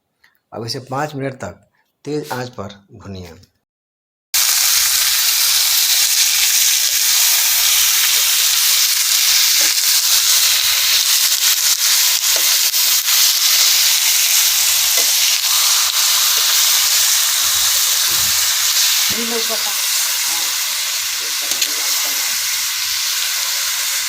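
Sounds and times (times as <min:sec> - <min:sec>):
chicken sizzling in hot oil: 0:04.4 - 0:24.0.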